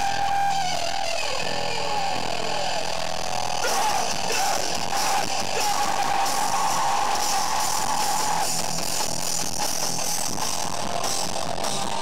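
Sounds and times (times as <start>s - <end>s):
live hardcore band playing: 0.0s - 12.0s.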